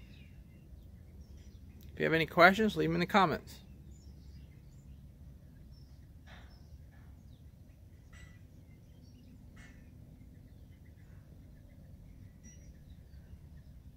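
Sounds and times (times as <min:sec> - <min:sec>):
low steady rumble: 0:00.0 - 0:13.9.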